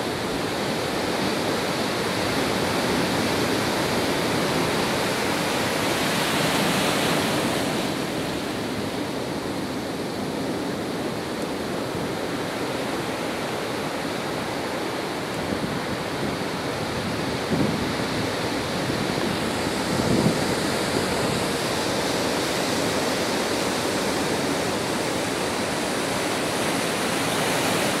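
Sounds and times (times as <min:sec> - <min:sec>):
storm surf breaking: 0:00.0 - 0:28.0.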